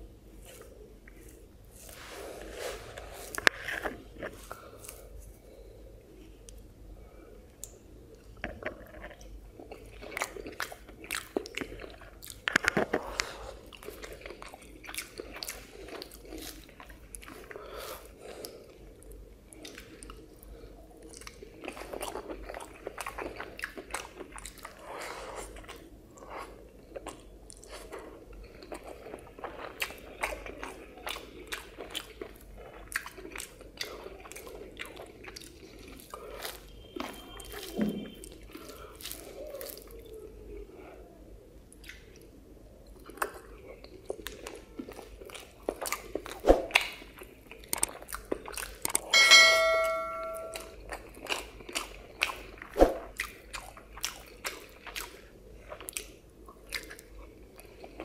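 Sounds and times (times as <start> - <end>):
chewing and mouth smacks: 7.5 - 40.2, 41.7 - 49.1, 50.6 - 58.0.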